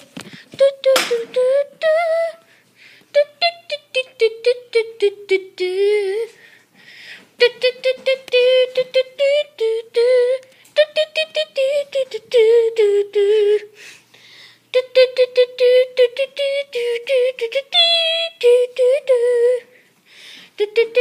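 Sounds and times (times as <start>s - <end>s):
child singing: 0.0s - 2.4s, 3.2s - 6.4s, 7.4s - 13.7s, 14.7s - 19.7s, 20.6s - 21.0s.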